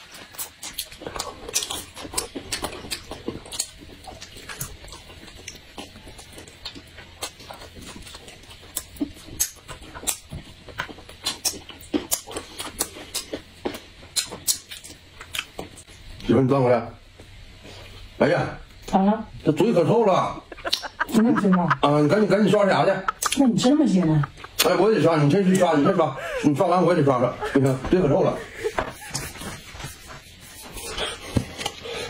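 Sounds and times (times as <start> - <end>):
people chewing and smacking lips: 0.0 - 16.3, 17.1 - 18.9, 20.4 - 32.0.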